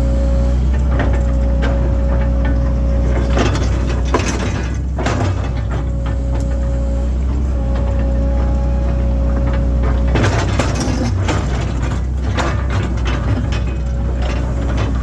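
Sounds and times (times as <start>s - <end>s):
excavator engine hum: 0.0s - 15.0s
hydraulic whine: 0.0s - 15.0s.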